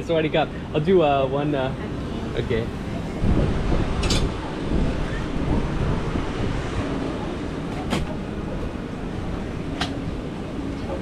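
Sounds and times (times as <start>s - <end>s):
wind buffeting microphone: 1.9s - 11.0s.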